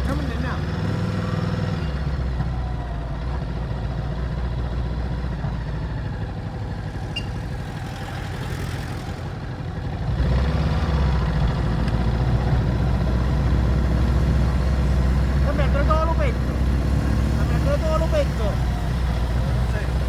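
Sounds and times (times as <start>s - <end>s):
motorcycle engine running at low revs: 0.0s - 20.0s.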